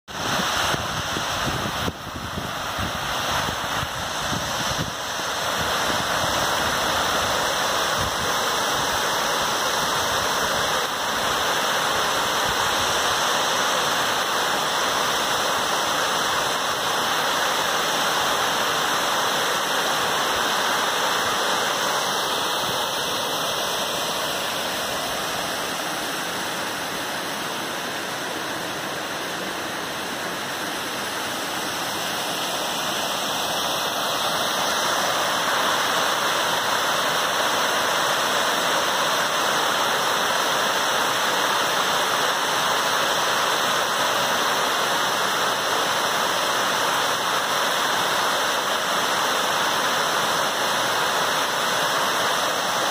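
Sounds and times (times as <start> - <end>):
waterfall rushing: 0.1 - 52.9.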